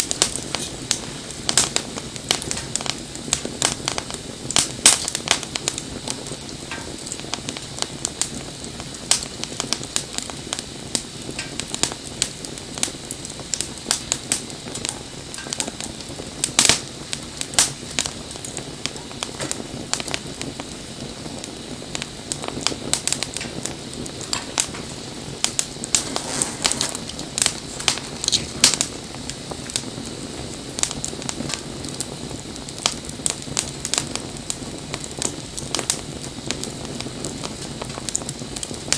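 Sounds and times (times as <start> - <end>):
bonfire crackling and popping: 0.0 - 38.9
low rush of flame: 0.0 - 38.9.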